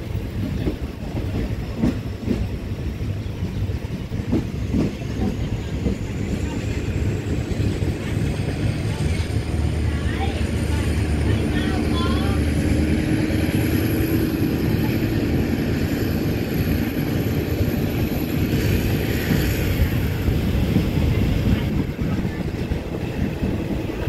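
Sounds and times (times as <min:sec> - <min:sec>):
train running noise: 0:00.0 - 0:24.0.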